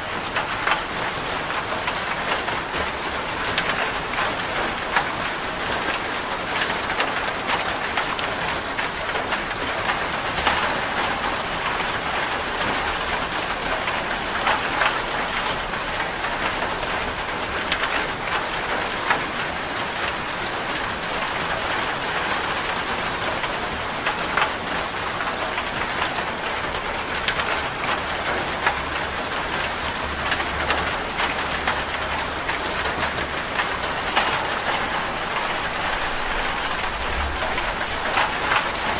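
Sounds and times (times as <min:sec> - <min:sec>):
rain drops ticking on a surface: 0:00.0 - 0:38.9.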